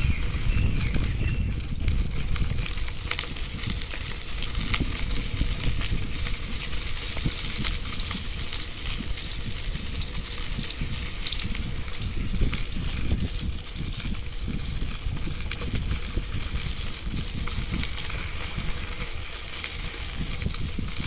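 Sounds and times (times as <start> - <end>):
bicycle tyres crunching leaves: 0.0 - 21.0
low rumble of bicycle ride: 0.0 - 21.0.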